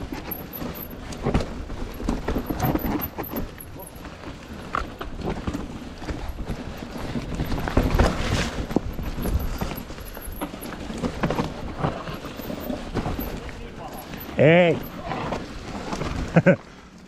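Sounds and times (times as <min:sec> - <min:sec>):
mountain bike clattering: 0:00.0 - 0:17.0.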